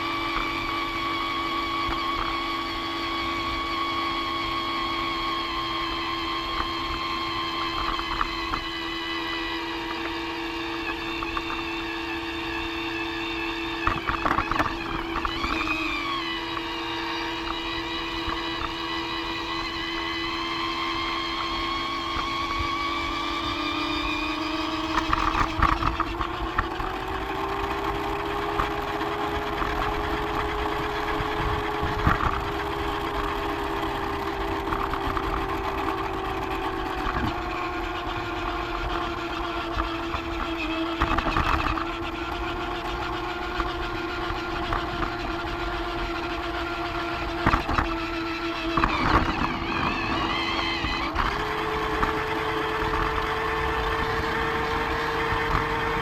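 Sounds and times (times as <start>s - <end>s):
toy train motor whine: 0.0s - 56.0s.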